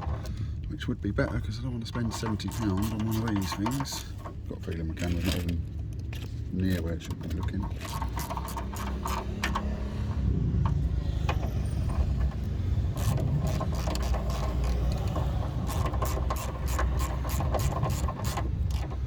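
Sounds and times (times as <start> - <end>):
steady low rumble: 0.0 - 19.0
mechanical clicks and rattles: 1.2 - 11.4, 12.0 - 19.0.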